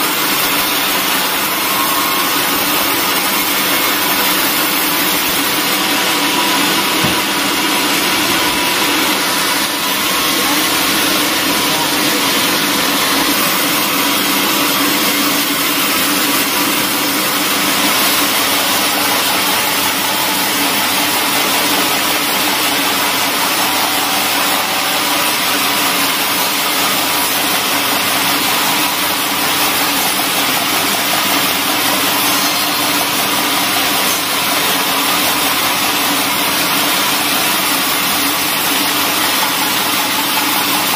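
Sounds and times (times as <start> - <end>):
bandsaw cutting timber: 0.0 - 40.9.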